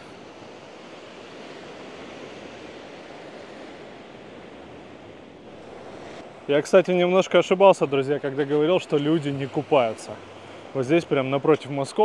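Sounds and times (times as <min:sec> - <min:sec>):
sea waves washing on shore: 0:00.0 - 0:12.0.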